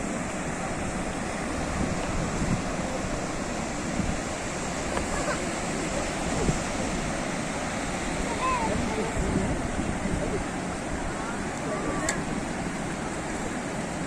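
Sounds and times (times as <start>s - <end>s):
sea waves washing onto shore: 0.0s - 14.0s.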